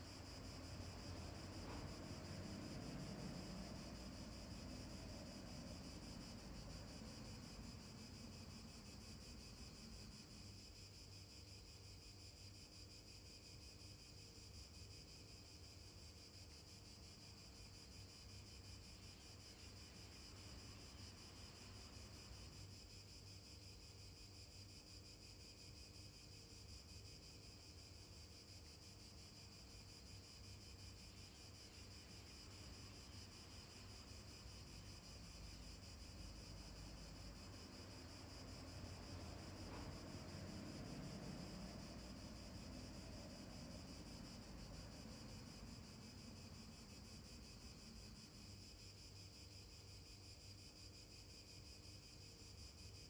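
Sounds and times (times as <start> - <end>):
steady high-pitched hiss: 0.0 - 53.0.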